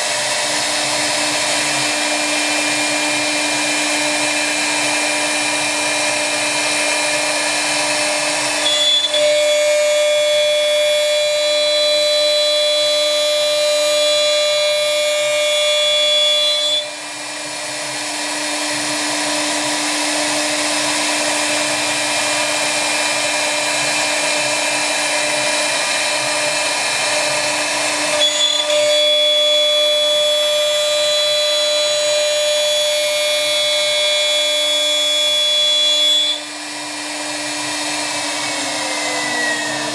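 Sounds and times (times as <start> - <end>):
router spindle milling wood: 0.0 - 39.9.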